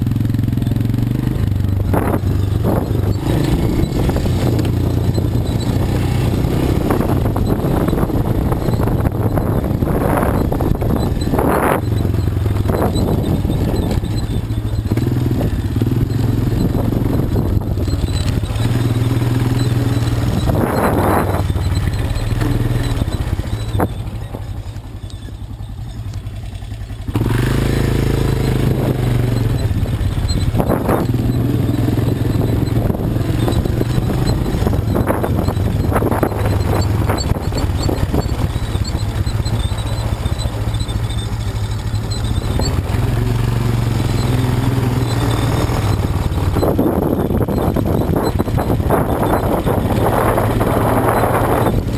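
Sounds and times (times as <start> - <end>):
quad bike engine running: 0.0 - 51.9.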